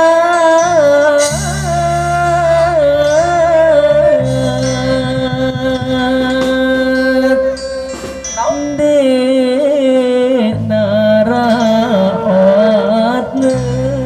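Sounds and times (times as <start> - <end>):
held melody line bending in pitch: 0.0 - 14.0
sustained bass: 0.0 - 14.0.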